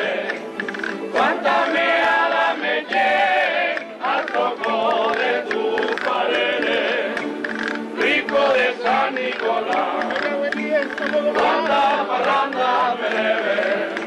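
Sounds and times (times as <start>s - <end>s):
folk group singing in chorus: 0.0s - 14.0s
strummed guitars: 0.0s - 14.0s.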